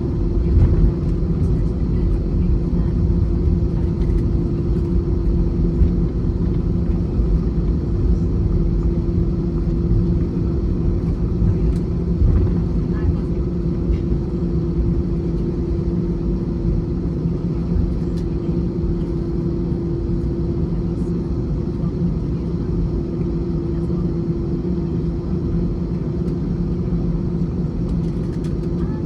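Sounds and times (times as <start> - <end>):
droning hum tones: 0.0 - 29.0
jet engine cabin rumble: 0.0 - 29.0.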